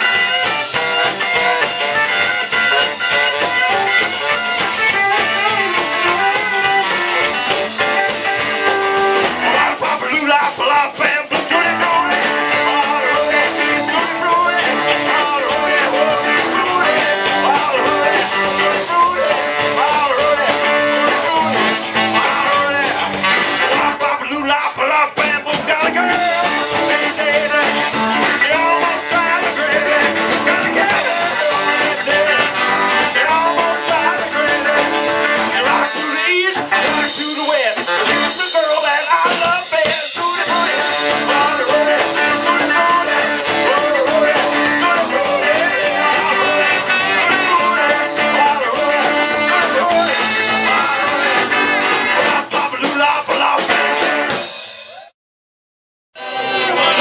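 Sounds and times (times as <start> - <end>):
saxophone: 0.0 - 9.7, 11.9 - 23.9, 26.1 - 38.6, 40.3 - 52.2, 56.2 - 57.0
electric guitars: 0.0 - 55.0, 56.2 - 57.0
drum kit: 0.0 - 55.1, 56.2 - 57.0.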